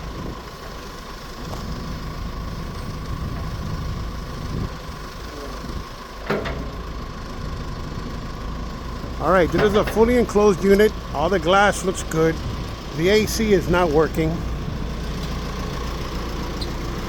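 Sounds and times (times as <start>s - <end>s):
backhoe diesel engine under load: 0.0s - 17.0s.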